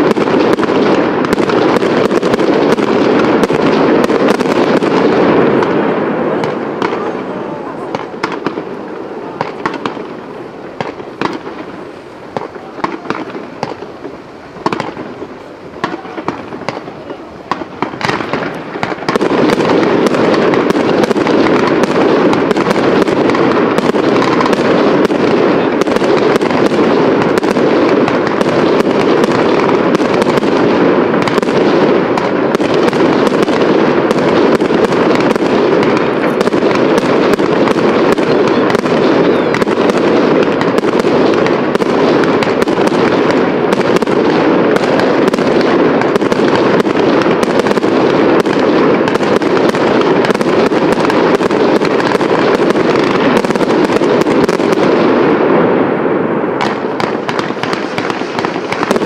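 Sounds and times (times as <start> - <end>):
fireworks crackling and bursting: 0.0 - 59.0
fireworks cracks and pops: 0.0 - 59.0.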